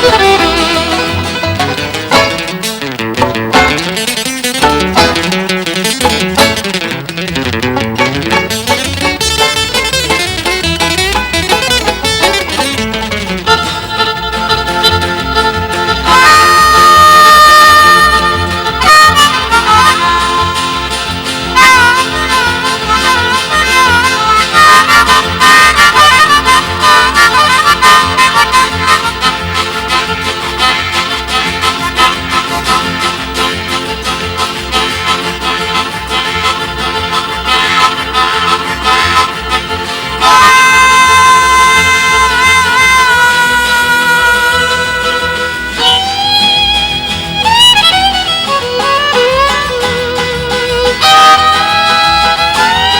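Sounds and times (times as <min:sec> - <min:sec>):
country band rhythm: 0:00.0 - 0:52.9
guitar and double bass backing: 0:00.0 - 0:52.9
harmonica solo: 0:00.0 - 0:52.9.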